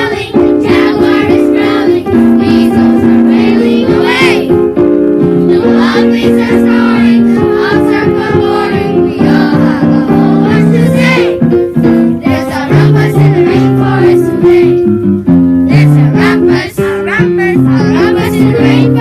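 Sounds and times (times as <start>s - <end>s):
voices singing: 0.0s - 4.8s, 5.4s - 15.1s, 15.7s - 19.0s
held keyboard notes: 0.0s - 19.0s.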